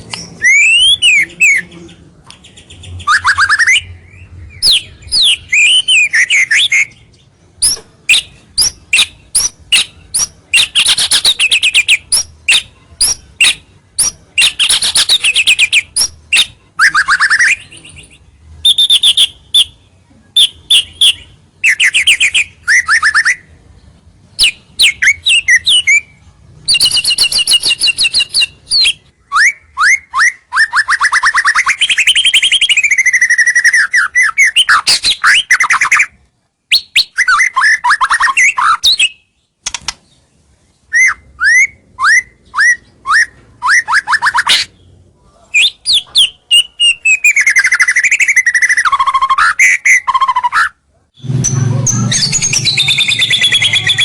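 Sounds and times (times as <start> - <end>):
bird singing: 0.0 - 40.3, 40.9 - 50.5, 51.2 - 54.0.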